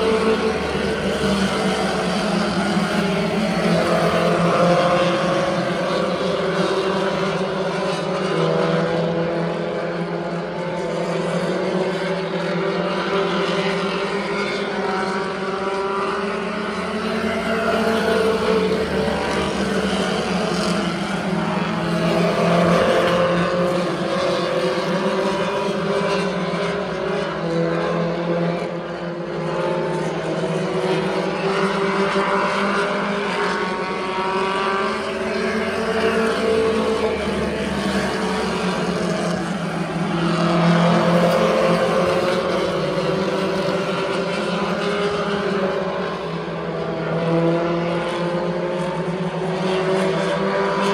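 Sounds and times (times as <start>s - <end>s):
race car engines: 0.0s - 50.9s.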